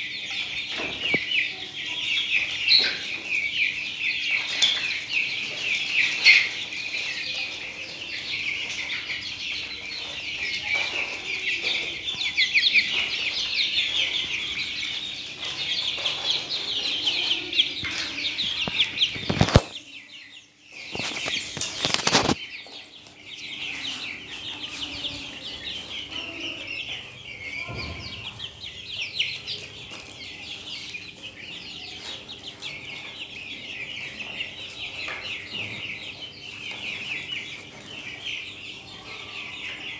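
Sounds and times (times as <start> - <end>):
chicks peeping and clucking: 0.0 - 39.9.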